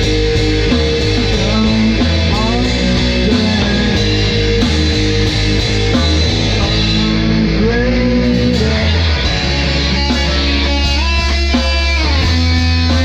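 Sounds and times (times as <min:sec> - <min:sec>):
rock music with guitar and bass: 0:00.0 - 0:13.0.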